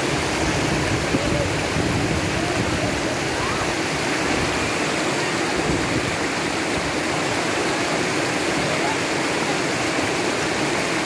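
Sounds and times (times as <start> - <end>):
river rapids rushing over boulders: 0.0 - 11.0.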